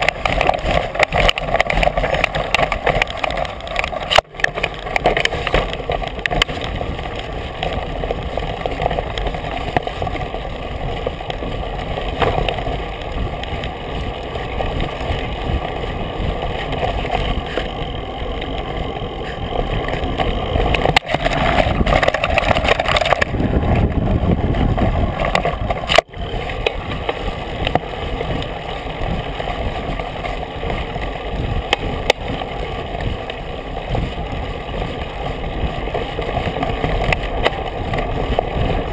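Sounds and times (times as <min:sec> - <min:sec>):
bike rattling: 0:00.0 - 0:38.9
wind rushing on microphone: 0:00.0 - 0:38.9.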